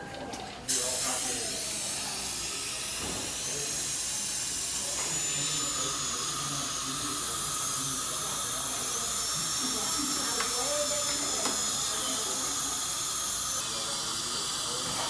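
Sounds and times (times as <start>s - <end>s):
dental drill whining: 0.7s - 15.0s
water spray hissing: 0.7s - 15.0s.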